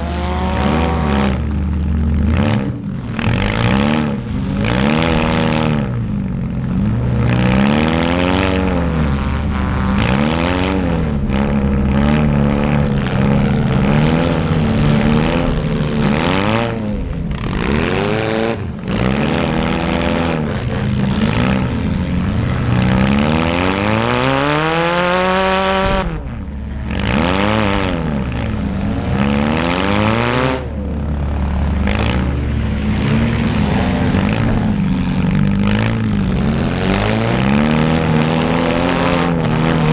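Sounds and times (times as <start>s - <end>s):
car engines revving hard: 0.0s - 39.9s.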